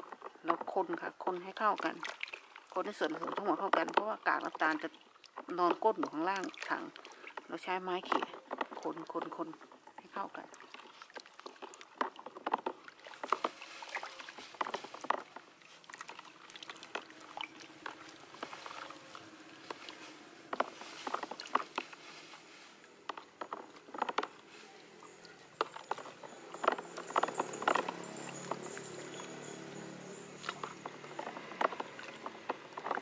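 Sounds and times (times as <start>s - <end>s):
liquid sloshing and splashing: 0.0s - 33.0s
stick stirring thick liquid in bucket: 0.0s - 33.0s.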